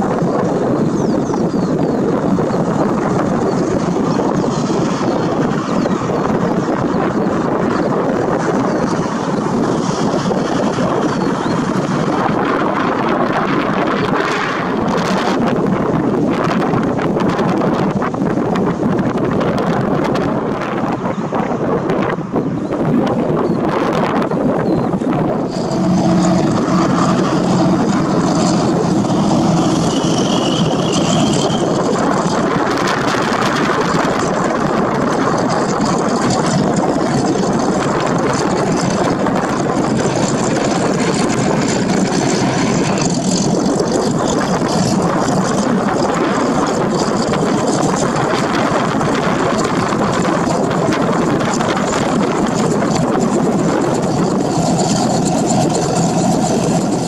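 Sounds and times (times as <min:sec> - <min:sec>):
helicopter engine and rotors running: 0:00.0 - 0:57.0.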